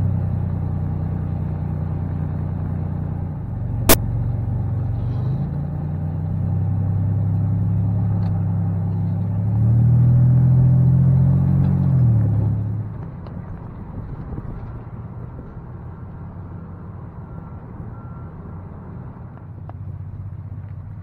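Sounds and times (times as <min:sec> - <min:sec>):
road rumble: 0:00.0 - 0:21.0.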